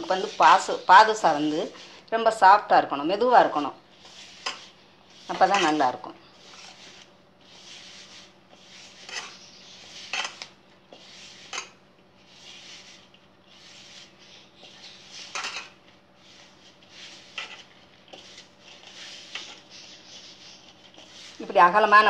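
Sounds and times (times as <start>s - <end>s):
hands rubbing dough: 0.0s - 22.0s.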